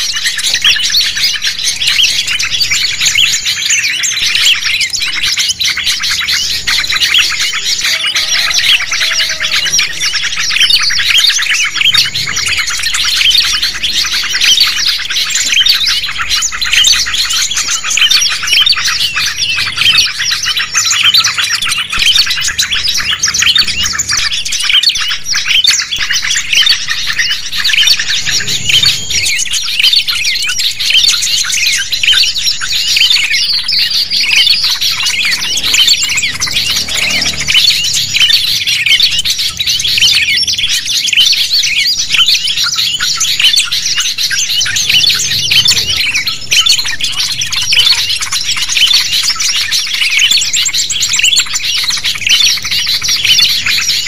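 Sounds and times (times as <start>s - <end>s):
songbirds chirping and twittering: 0.0s - 54.0s.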